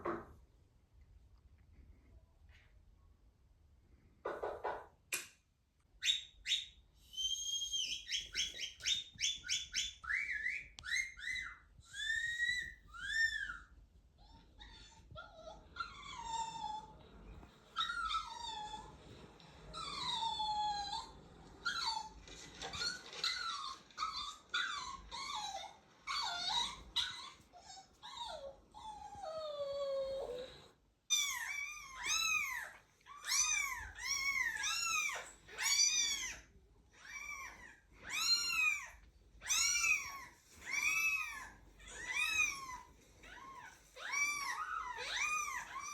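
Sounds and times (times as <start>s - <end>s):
high-pitched whining and whimpering calls: 6.0s - 45.9s.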